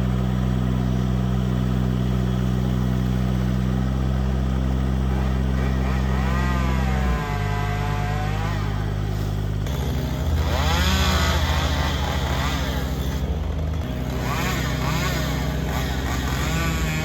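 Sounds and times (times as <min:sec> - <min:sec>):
machinery engine humming: 0:00.0 - 0:17.0.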